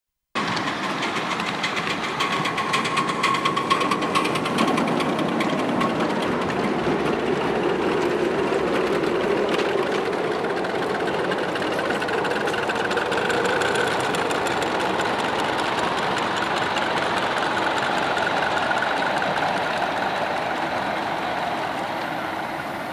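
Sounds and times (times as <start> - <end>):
miniature train mechanical clatter: 0.4 - 22.9.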